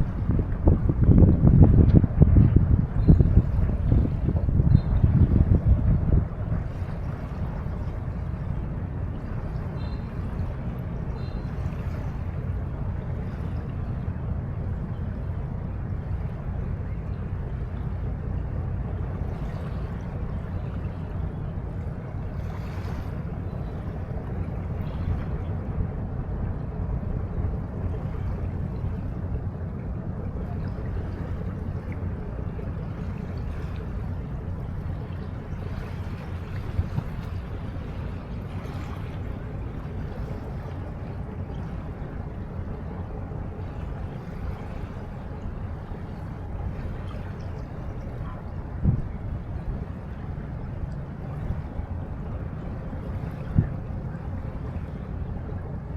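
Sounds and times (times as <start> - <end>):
low rumble: 0.0 - 55.7
river water: 0.0 - 55.9.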